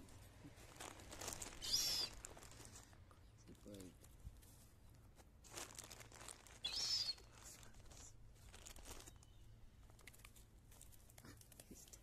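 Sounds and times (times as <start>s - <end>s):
crinkly packaging rustling: 0.0s - 12.0s.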